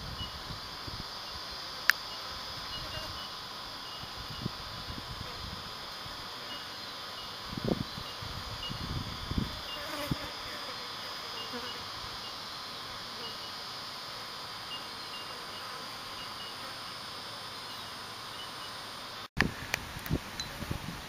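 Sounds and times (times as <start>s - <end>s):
short insect chirps: 0.0s - 19.3s
high-pitched insect chorus: 0.0s - 21.0s.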